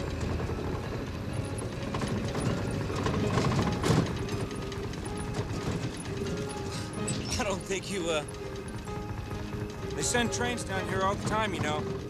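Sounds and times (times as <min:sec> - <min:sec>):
car body rattling: 0:00.0 - 0:12.0
car jolting: 0:00.0 - 0:12.0
tyres clattering over railroad ties: 0:00.0 - 0:12.0.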